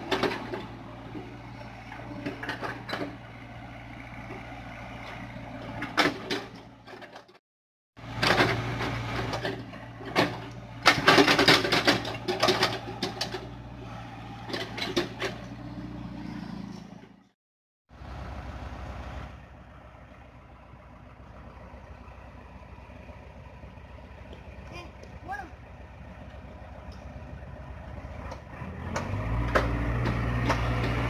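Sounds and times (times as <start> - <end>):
excavator diesel engine running: 0.0 - 7.3, 8.0 - 17.3, 17.9 - 31.0.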